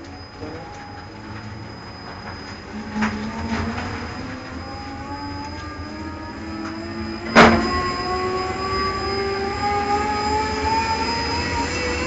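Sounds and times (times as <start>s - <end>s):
constant high whistle: 0.0s - 12.0s
electric bus drive whining: 0.0s - 12.0s.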